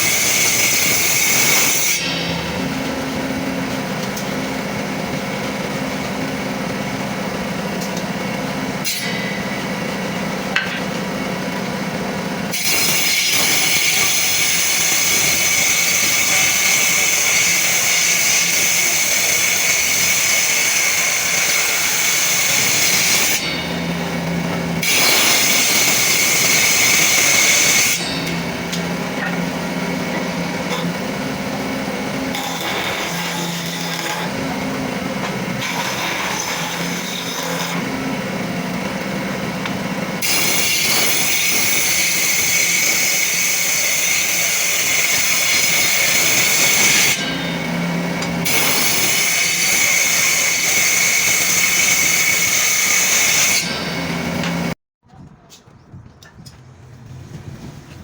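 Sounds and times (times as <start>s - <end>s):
power tool whining on wood: 0.0s - 54.8s.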